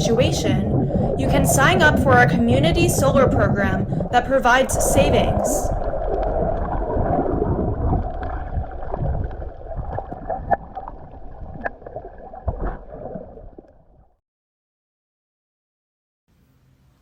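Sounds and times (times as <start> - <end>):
underwater sloshing and gurgling: 0.0 - 14.2.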